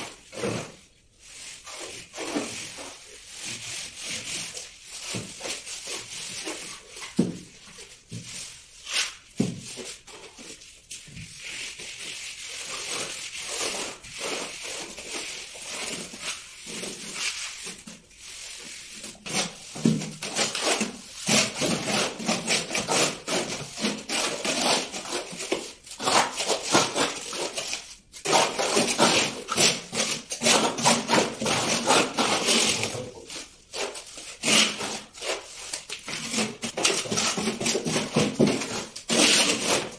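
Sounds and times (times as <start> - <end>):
plastering tools scraping plaster: 0.0 - 39.9
straightedge dragged across plaster: 0.0 - 39.9.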